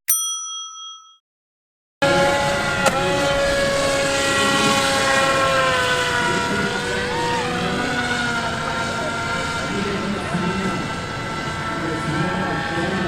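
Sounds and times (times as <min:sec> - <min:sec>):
model airplane electric motors whining: 0:02.0 - 0:13.0.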